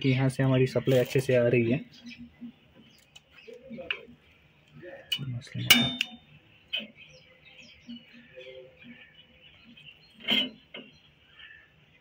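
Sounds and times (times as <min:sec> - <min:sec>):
faint bird chirps: 0:01.7 - 0:12.0.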